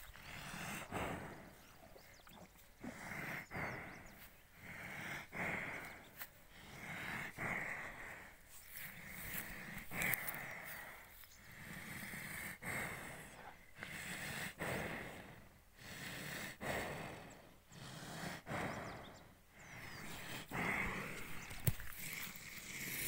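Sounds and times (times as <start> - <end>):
water buffalo breathing and snorting: 0.0 - 23.0.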